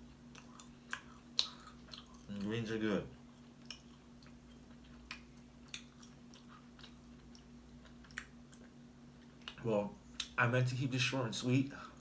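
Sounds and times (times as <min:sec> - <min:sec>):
person chewing food: 0:00.0 - 0:10.4
low electrical hum: 0:00.0 - 0:12.0.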